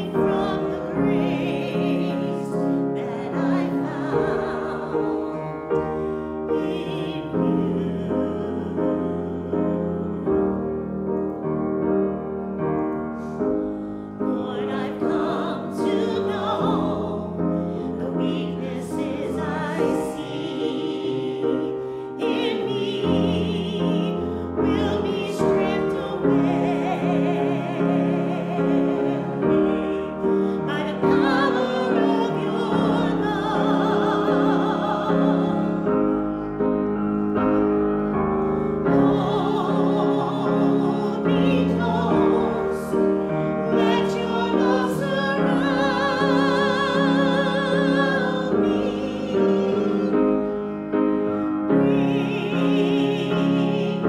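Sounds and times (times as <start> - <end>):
woman singing: 0.0 - 10.2, 14.2 - 36.2, 38.9 - 50.5, 51.7 - 54.0
piano: 0.0 - 54.0.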